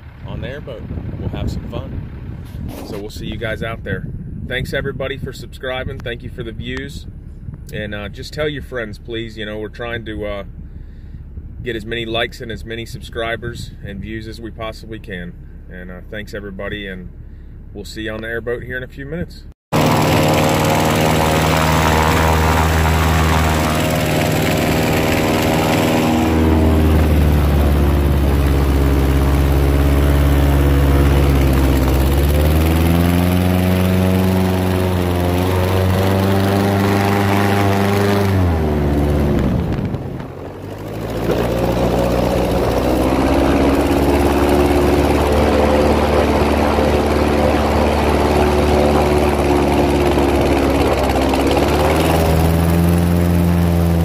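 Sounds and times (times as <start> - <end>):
airboat engine and propeller: 0.0 - 11.6, 19.7 - 54.0.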